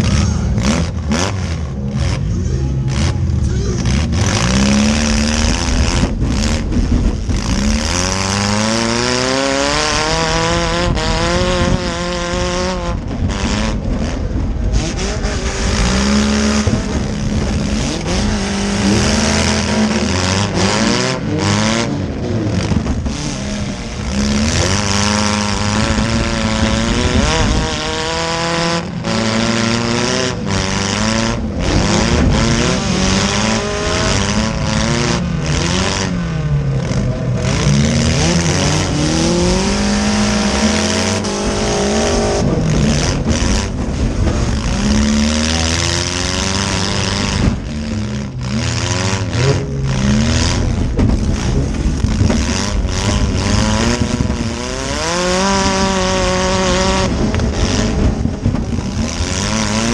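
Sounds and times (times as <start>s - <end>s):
car engine revving hard: 0.0s - 59.9s.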